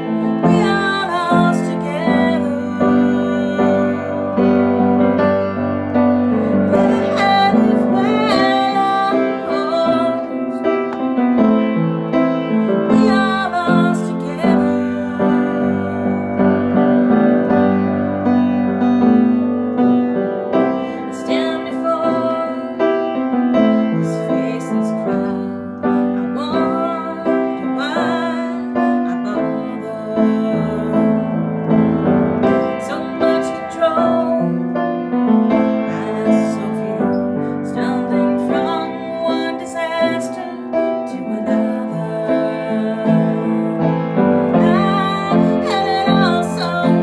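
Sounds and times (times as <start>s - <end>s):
woman singing: 0.0s - 19.3s, 20.4s - 47.0s
piano playing slow song: 0.0s - 47.0s.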